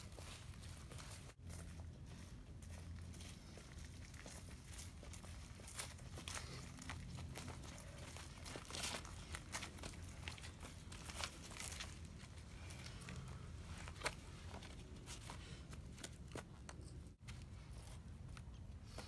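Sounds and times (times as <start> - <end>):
dry leaves crunching underfoot: 0.0 - 16.3.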